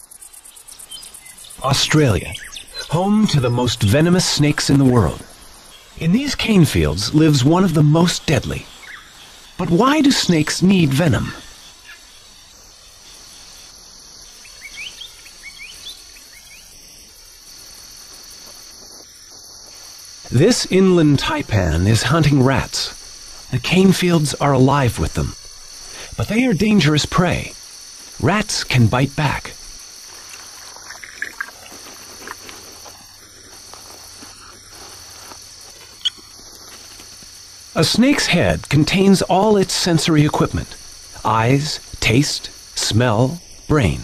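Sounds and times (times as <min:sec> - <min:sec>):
crickets trilling: 0:00.0 - 0:44.0
high-pitched night insects chorus: 0:00.0 - 0:44.0.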